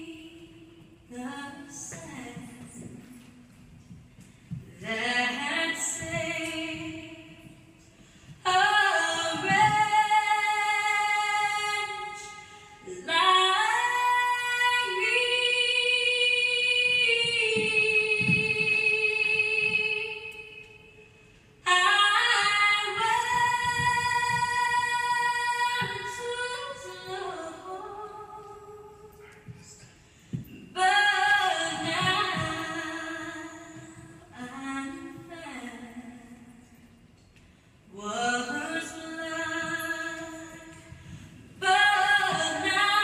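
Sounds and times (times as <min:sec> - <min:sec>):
woman singing slow song: 0:00.0 - 0:03.7, 0:04.6 - 0:21.0, 0:21.6 - 0:29.5, 0:30.4 - 0:37.0, 0:37.9 - 0:43.0.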